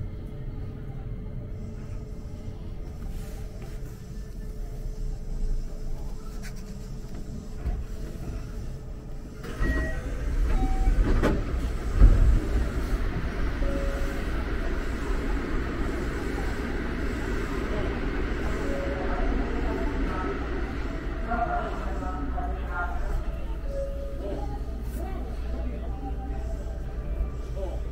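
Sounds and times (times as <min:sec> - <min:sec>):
train rumbling on rails: 0:00.0 - 0:27.9.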